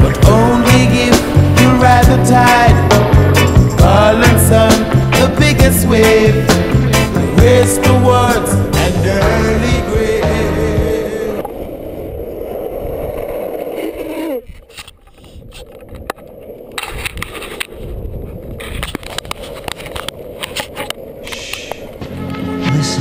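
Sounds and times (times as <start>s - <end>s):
longboard wheels rolling on asphalt: 0.0s - 23.0s.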